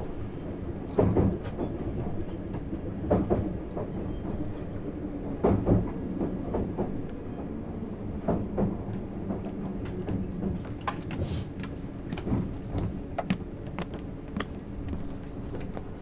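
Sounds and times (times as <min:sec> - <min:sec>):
train interior low hum: 0:00.0 - 0:16.0.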